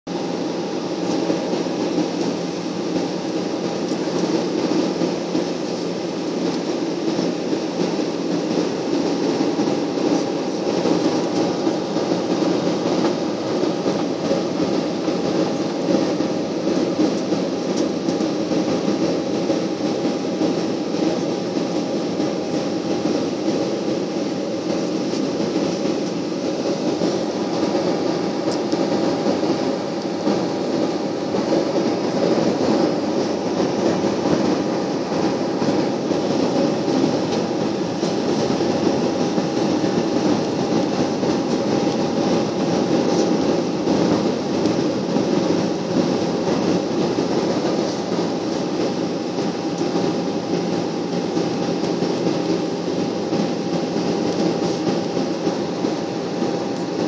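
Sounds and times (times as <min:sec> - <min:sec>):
jet engines and air rushing: 0:00.1 - 0:57.0.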